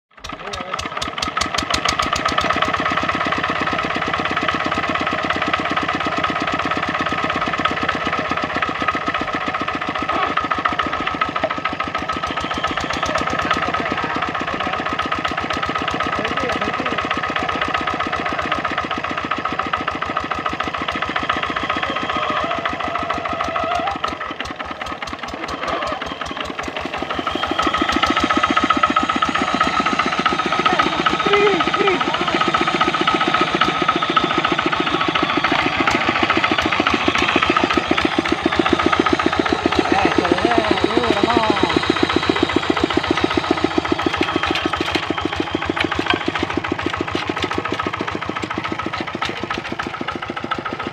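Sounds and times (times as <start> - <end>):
single-cylinder diesel engine running: 0.1 - 50.9.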